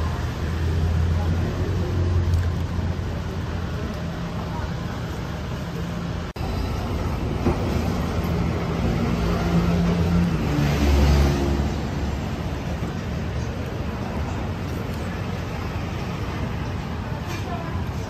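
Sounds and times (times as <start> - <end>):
rumble of passing traffic: 0.0 - 18.0
vehicle engine hum passing close: 0.0 - 18.0.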